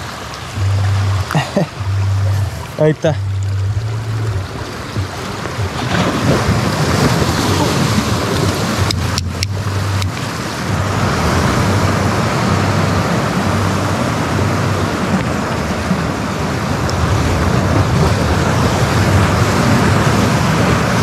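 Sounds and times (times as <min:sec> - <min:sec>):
sea surf washing in: 0:00.0 - 0:21.0
wind rumbling on microphone: 0:00.0 - 0:21.0.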